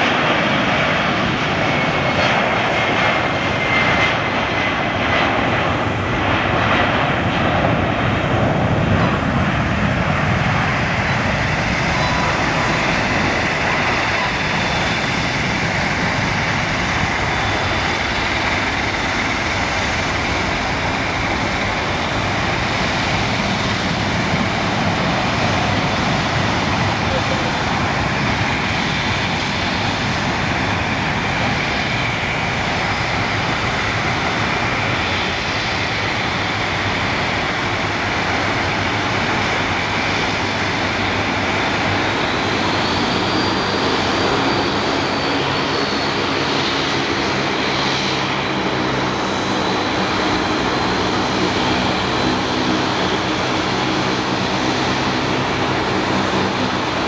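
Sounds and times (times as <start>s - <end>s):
jet engines at takeoff: 0.0s - 57.0s.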